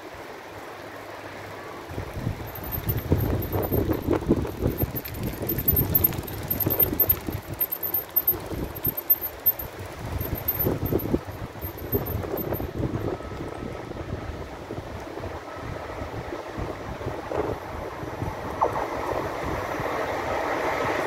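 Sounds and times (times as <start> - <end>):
wind buffeting microphone: 1.9 - 21.0.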